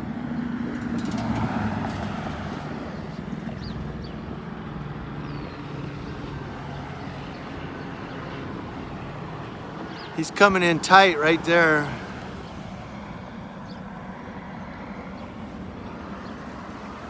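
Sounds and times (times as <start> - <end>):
helicopter rotor drone: 1.9 - 17.0.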